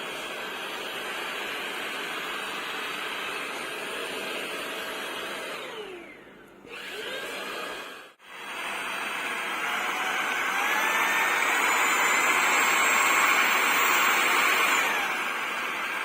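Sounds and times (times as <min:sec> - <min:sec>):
stick vacuum running with motor whine: 0:00.0 - 0:16.0.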